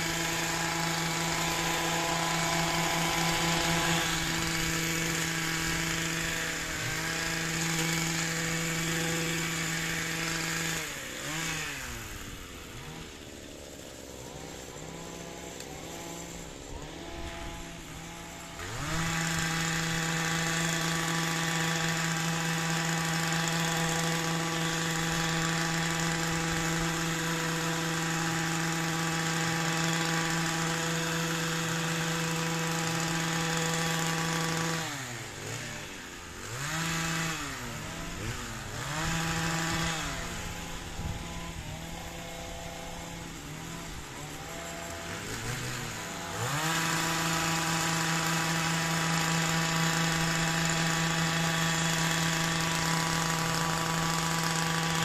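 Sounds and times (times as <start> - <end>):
hedge trimmer engine revving: 0.0 - 55.0.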